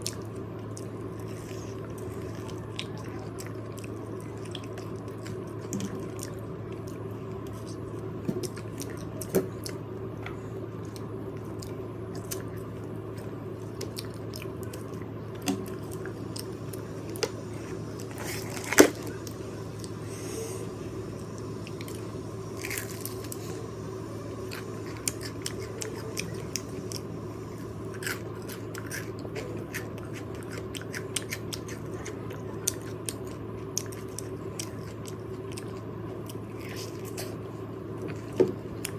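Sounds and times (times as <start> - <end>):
chewing fried chicken: 0.0 - 38.9
steady low hum: 0.0 - 38.9.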